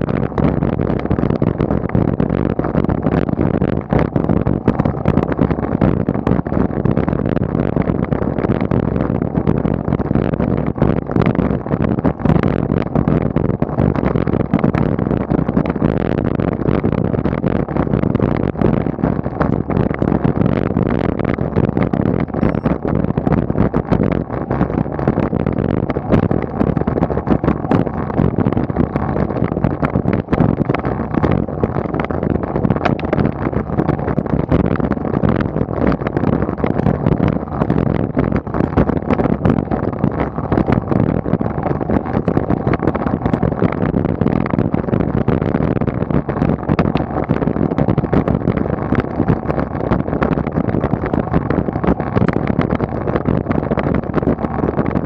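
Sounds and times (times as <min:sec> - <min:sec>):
bicycle tyres rumbling: 0:00.0 - 0:55.0
bike rattles and ticks: 0:00.0 - 0:55.0
wind on microphone: 0:00.0 - 0:55.0.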